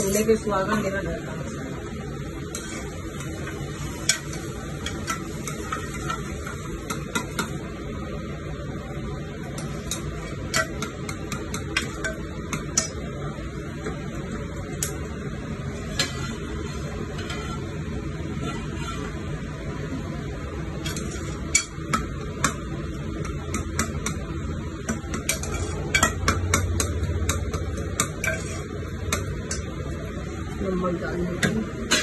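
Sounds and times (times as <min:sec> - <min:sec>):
food sizzling in a pan: 0:00.0 - 0:30.5.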